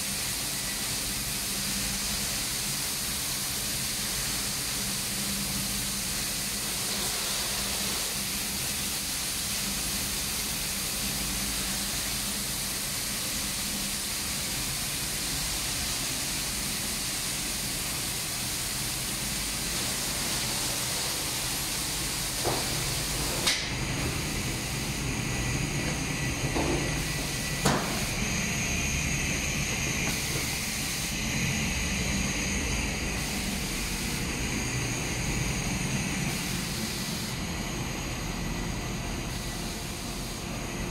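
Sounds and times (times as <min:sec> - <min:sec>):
compressed air hissing: 0:00.0 - 0:37.4, 0:39.3 - 0:40.6
extraction fan humming: 0:00.0 - 0:40.9.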